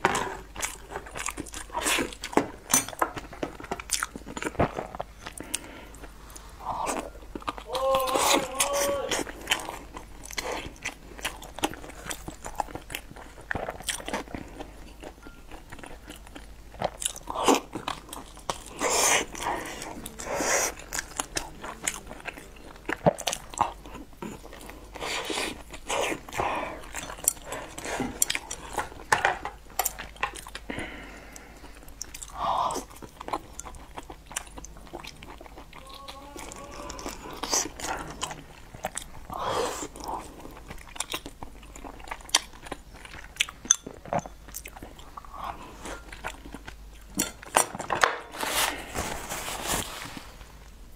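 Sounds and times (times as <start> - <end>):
person chewing soft food: 0.0 - 50.9.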